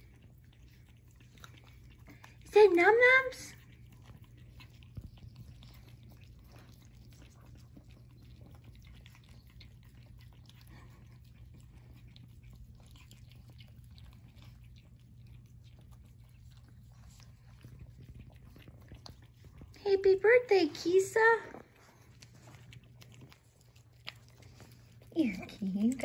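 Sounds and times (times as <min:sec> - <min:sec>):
dogs licking and lapping: 0:00.0 - 0:26.0.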